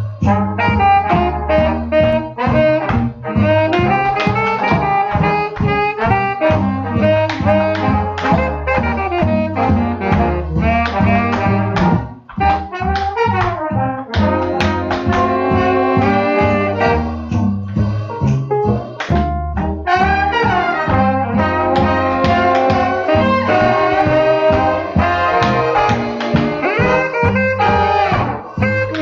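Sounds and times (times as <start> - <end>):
swing jazz band with horns: 0.0 - 29.0.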